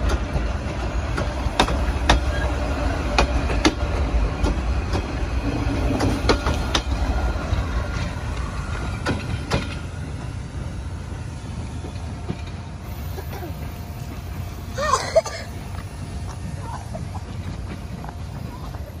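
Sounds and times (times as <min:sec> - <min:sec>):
train wheel clicks: 0:00.0 - 0:14.7, 0:15.6 - 0:19.0
train coaches rumbling: 0:00.0 - 0:19.0.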